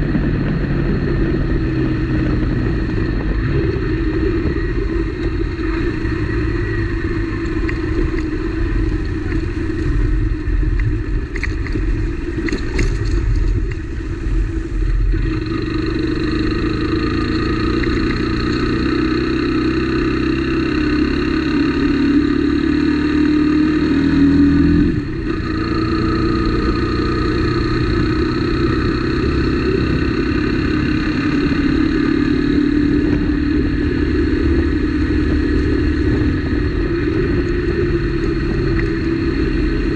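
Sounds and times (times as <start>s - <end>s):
motorcycle engine running: 0.0s - 39.9s
road and wind rumble: 0.0s - 39.9s.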